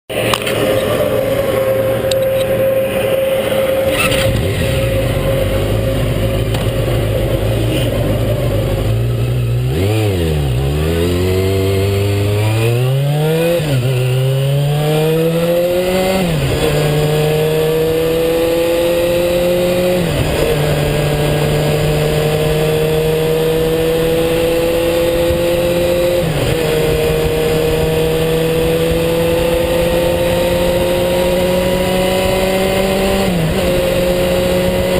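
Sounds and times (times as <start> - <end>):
vehicle engine accelerating: 0.1 - 34.9.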